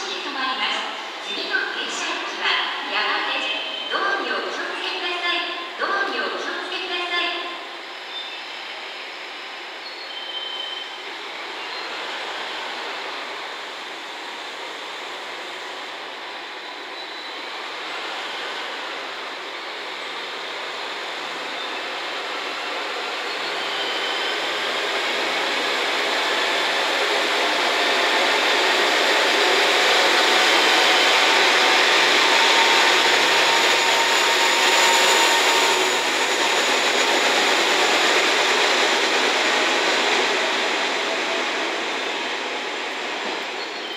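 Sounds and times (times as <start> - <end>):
diesel train passing: 0.0 - 43.9.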